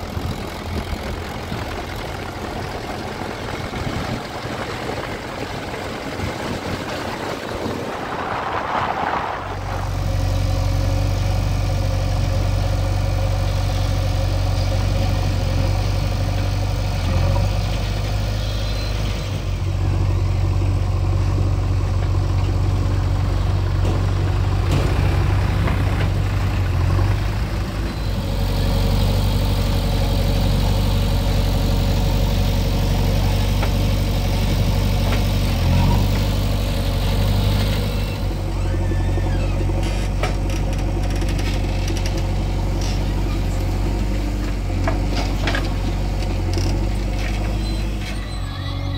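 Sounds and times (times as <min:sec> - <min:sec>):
diesel engines droning: 0:00.0 - 0:48.9.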